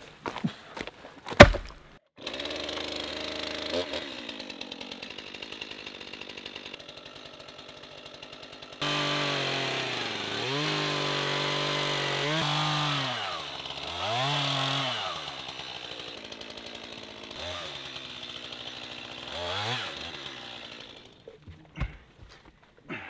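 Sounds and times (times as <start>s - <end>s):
chainsaw cutting into log: 1.3s - 22.0s.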